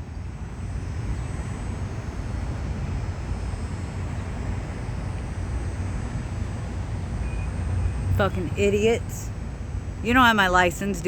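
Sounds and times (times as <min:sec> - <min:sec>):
low rumble with hiss: 0:00.0 - 0:11.0.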